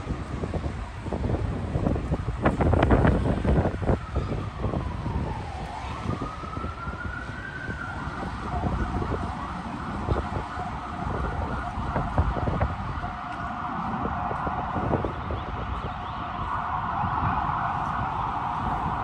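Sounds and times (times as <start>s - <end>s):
emergency vehicle siren wailing: 0.0s - 19.0s
street traffic rumble: 0.0s - 19.0s.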